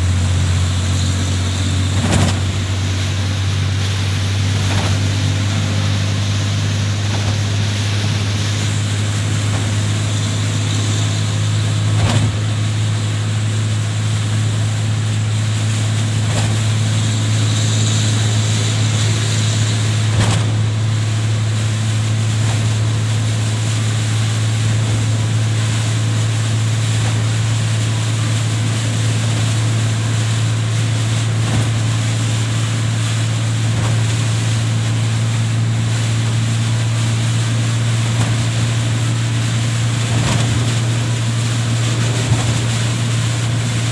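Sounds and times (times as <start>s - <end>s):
heavy rain: 0.0s - 43.9s
loud low hum: 0.0s - 43.9s
wind: 0.0s - 43.9s.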